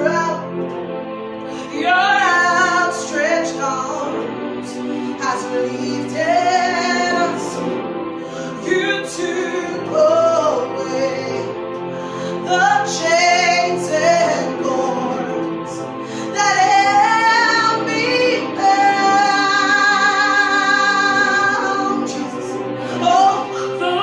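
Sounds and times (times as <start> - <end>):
woman singing: 0.0 - 0.5, 1.6 - 7.8, 8.5 - 11.6, 12.3 - 24.0
instrumental accompaniment: 0.0 - 24.0.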